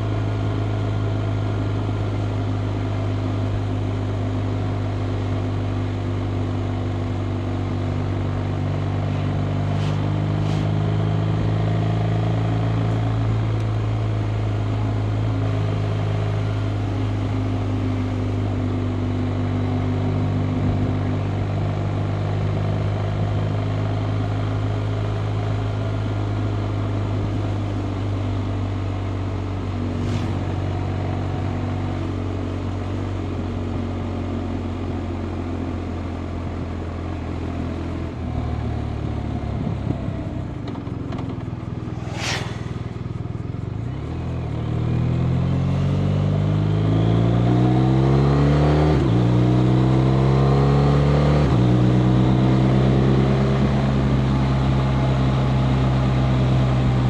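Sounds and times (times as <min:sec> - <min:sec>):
wind and road noise: 0:00.0 - 0:33.8, 0:36.6 - 0:57.0.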